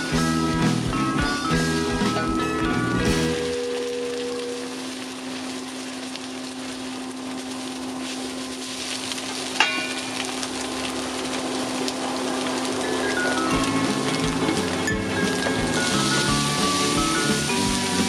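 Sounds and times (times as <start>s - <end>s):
egg sizzling in a wok: 0.0s - 18.0s
steady low hum: 0.0s - 18.0s.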